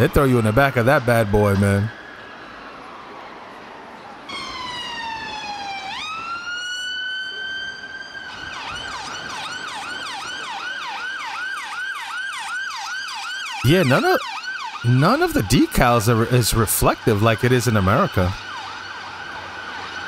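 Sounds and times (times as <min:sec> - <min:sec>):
ambulance siren: 0:00.0 - 0:20.0
street traffic noise: 0:00.0 - 0:20.0.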